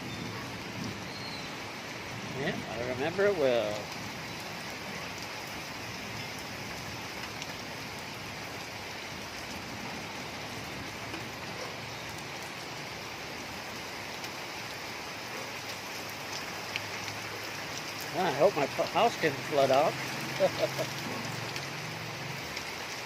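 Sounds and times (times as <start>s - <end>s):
heavy rain on standing water: 0.0s - 23.0s.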